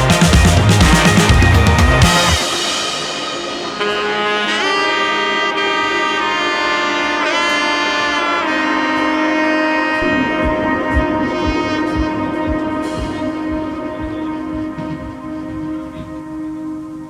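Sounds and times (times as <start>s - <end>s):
melody of sliding held notes: 0.0s - 17.0s.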